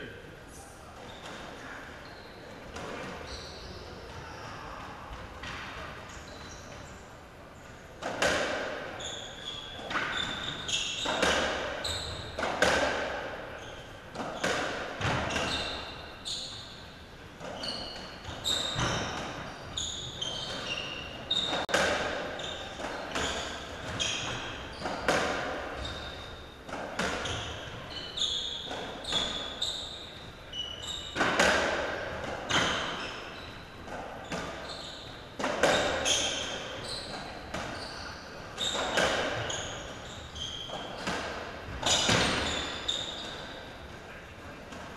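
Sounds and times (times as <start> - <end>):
shoes squeaking on court floor: 0.9 - 44.9.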